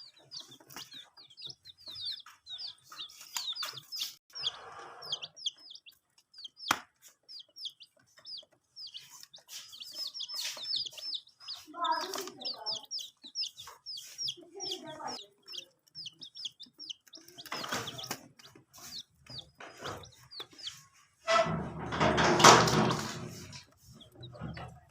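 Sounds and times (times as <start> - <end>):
baby chicks peeping: 0.0 - 24.9.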